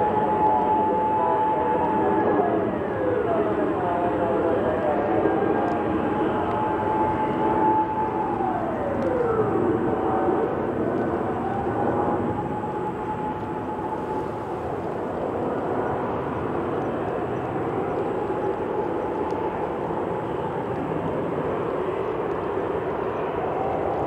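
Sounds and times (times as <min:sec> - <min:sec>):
distant jet engine roar: 0:00.0 - 0:24.0.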